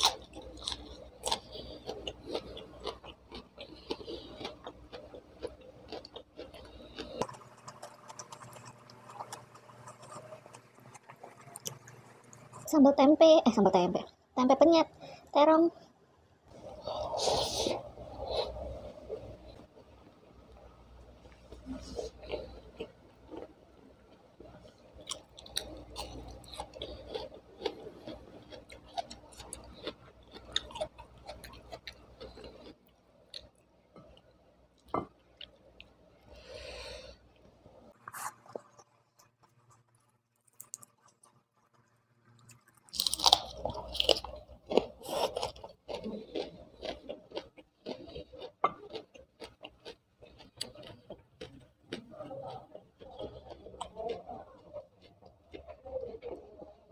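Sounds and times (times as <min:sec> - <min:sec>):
crisp food crunching: 0:00.0 - 0:12.7, 0:21.3 - 0:36.0, 0:37.9 - 0:56.9
wet chewing: 0:00.0 - 0:12.7, 0:21.3 - 0:56.9.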